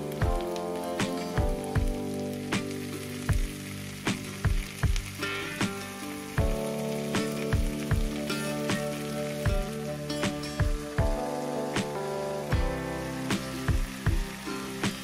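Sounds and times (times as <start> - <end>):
background music with steady beat: 0.0 - 15.0
vegetables sizzling in a frying pan: 0.0 - 15.0.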